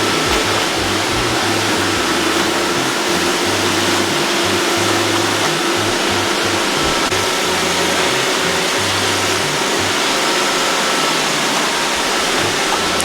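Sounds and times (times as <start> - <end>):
robot vacuums whirring: 0.0 - 13.0.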